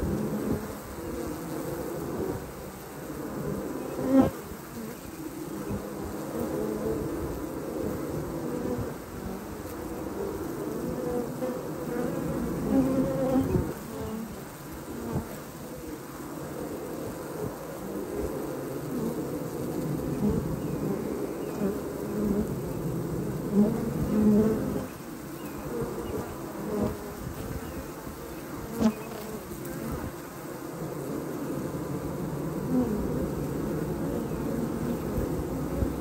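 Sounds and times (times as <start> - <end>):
honey bees buzzing: 0.0 - 36.0.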